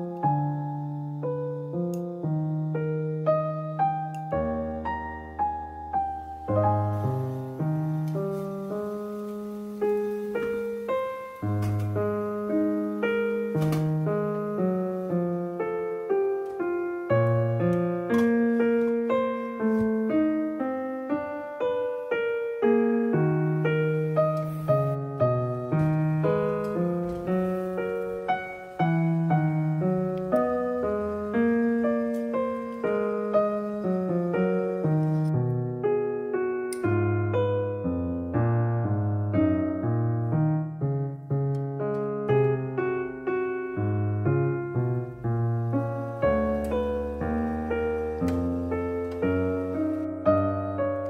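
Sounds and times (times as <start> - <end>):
gentle piano melody: 0.0 - 51.0.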